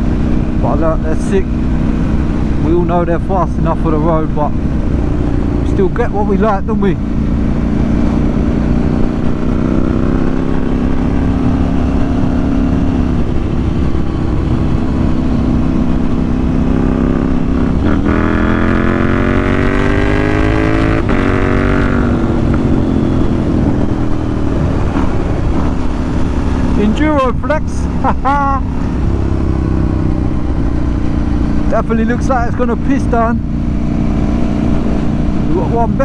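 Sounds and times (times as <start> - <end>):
motorcycle engine revving: 0.0 - 36.0
wind rumble on microphone: 0.0 - 36.0.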